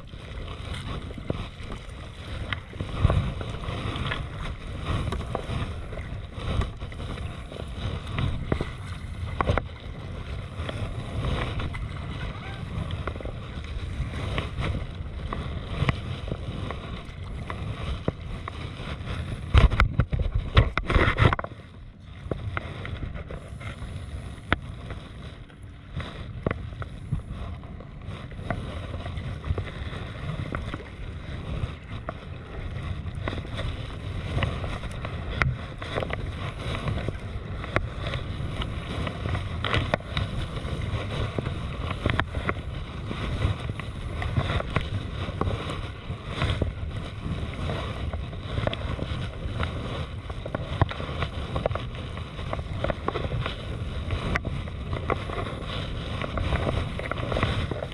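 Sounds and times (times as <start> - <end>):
paddle blades splashing: 0.0 - 57.9
water lapping against hull: 0.0 - 57.9
wind on microphone: 0.0 - 57.9.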